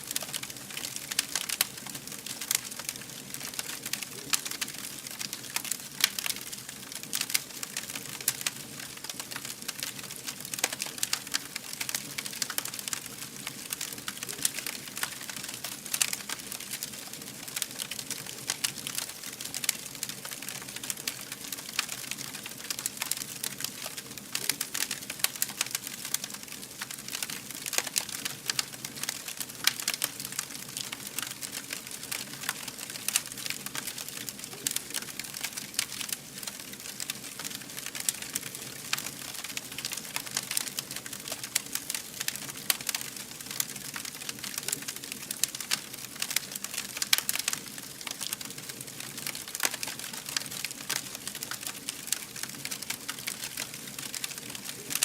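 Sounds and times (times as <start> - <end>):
fire crackling and popping: 0.0 - 55.0
soft steady hiss: 0.0 - 55.0.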